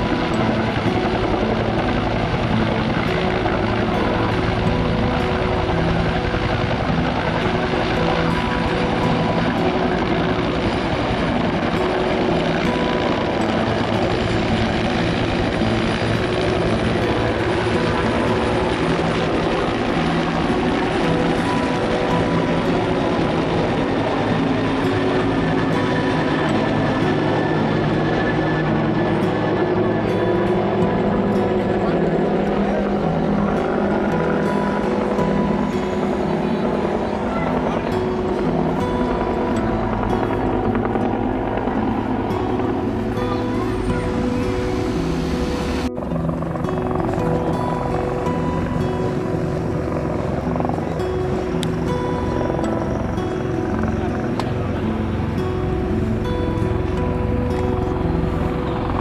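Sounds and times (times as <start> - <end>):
helicopter engine whining: 0.0 - 59.0
helicopter rotor beat: 0.0 - 59.0.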